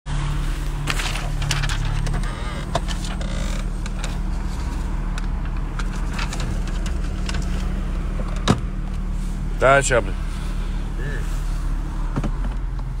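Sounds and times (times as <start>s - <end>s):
car engine hum: 0.1s - 13.0s.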